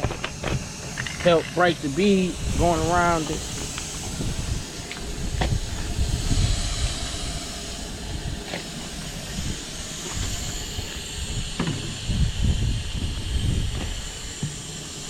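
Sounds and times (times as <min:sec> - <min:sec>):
air hissing out of tire valve: 0:00.0 - 0:15.0
low rumble: 0:00.6 - 0:14.9.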